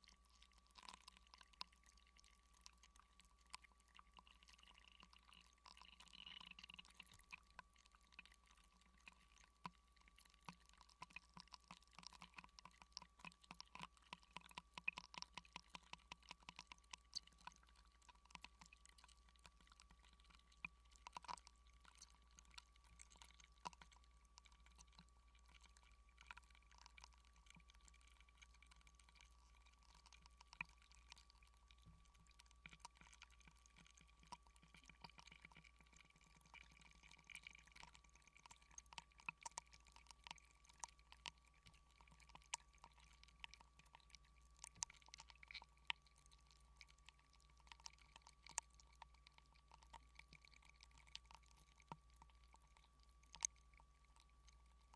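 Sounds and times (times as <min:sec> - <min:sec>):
faint clicks and crackles: 0:00.0 - 0:54.9
thin steady tone: 0:00.0 - 0:54.9.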